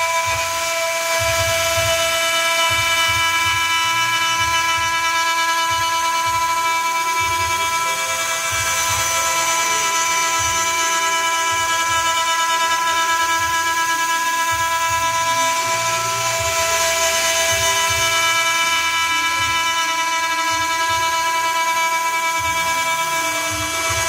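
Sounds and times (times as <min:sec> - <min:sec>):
milling spindle whine: 0:00.0 - 0:24.0.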